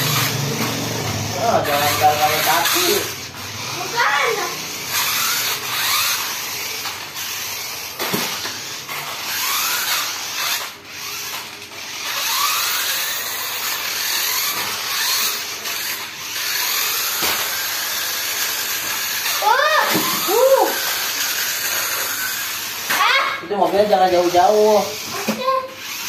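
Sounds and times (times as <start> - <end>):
toy truck motors whirring: 0.0 - 26.0.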